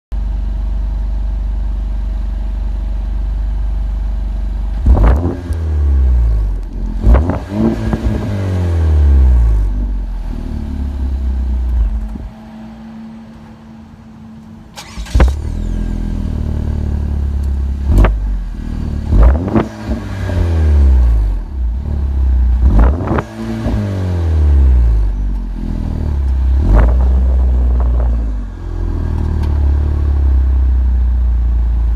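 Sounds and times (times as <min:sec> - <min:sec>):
car exhaust idling and revving: 0:00.1 - 0:31.9.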